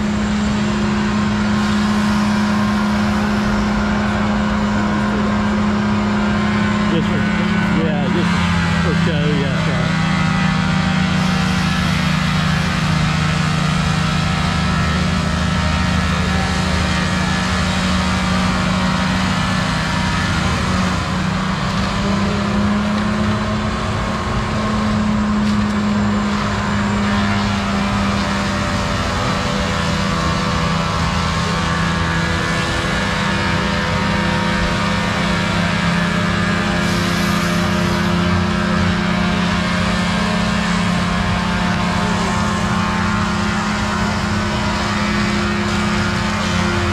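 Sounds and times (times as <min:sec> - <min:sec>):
large diesel engine under load: 0:00.0 - 0:46.9.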